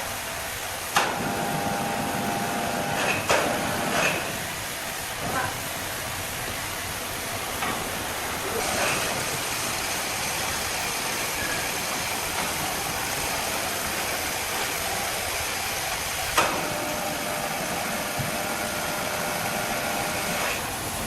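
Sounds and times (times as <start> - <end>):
broad hiss: 0.0 - 21.0
engine running: 0.0 - 21.0.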